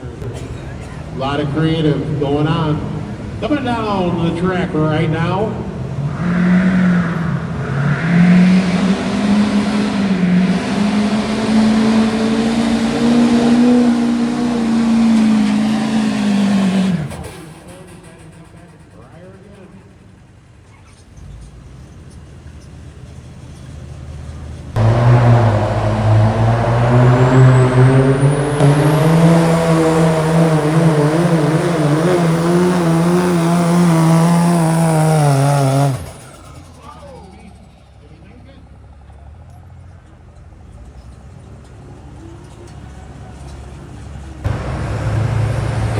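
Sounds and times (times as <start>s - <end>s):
diesel truck engine at full throttle: 0.0s - 45.9s.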